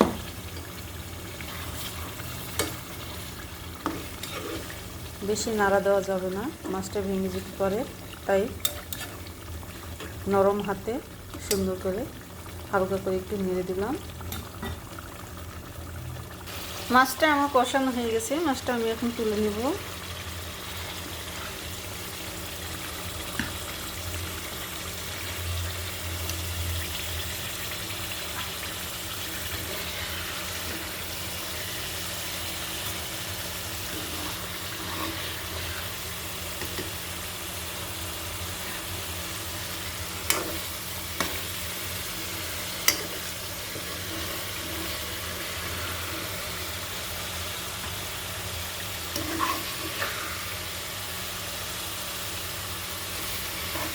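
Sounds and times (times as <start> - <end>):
curry sizzling in a pan: 0.0 - 53.9.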